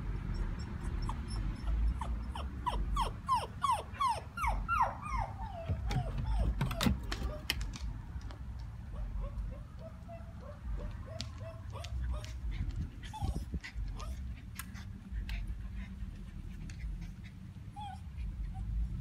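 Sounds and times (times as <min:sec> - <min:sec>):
puppy whimpering: 0:00.2 - 0:07.6, 0:09.0 - 0:19.0.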